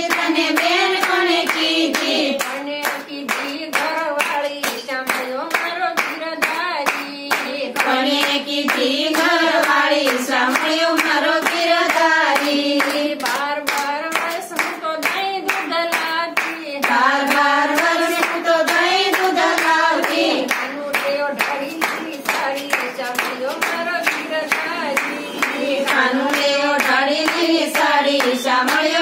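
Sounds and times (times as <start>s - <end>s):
rhythmic hand-clapping: 0.0s - 29.0s
women singing together: 0.0s - 29.0s.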